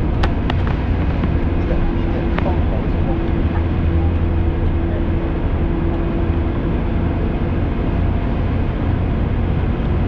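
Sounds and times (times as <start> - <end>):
road noise: 0.0 - 10.0
vehicle engine drone: 0.0 - 10.0.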